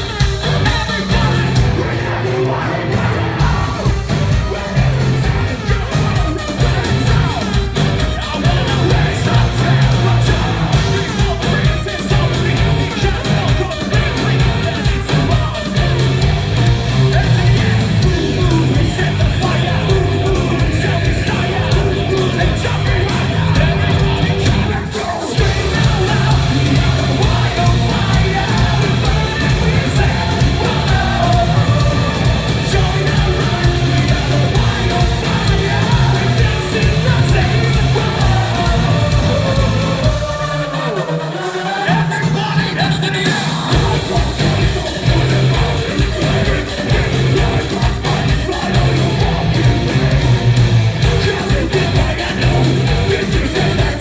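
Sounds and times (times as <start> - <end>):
distorted guitars: 0.0 - 54.0
drums: 0.0 - 54.0
screamed vocals: 0.0 - 54.0.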